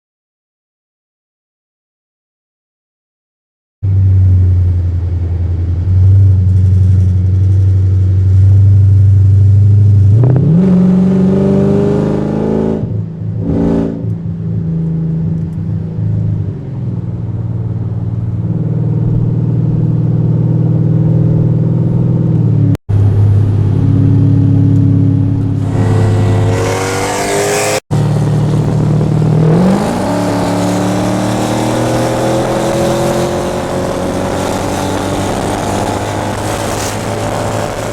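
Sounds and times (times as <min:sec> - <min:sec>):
car engine droning on highway: 0:03.8 - 0:37.9
engine accelerating hard: 0:03.8 - 0:37.9.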